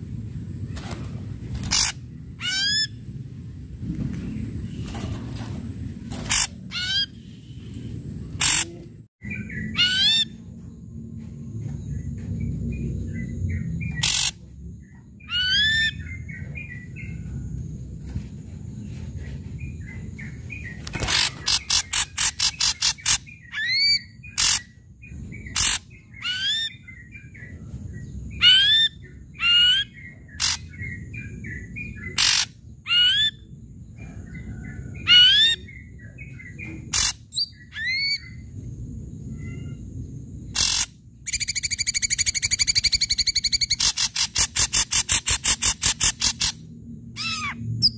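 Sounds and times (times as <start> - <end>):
bird singing: 0.7 - 3.2, 6.1 - 17.7, 18.7 - 47.9.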